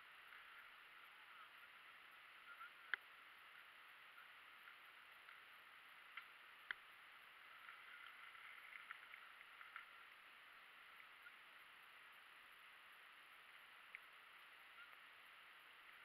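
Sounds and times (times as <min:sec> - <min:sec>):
faint steady hiss: 0:00.0 - 0:16.0
faint ticks: 0:00.1 - 0:16.0.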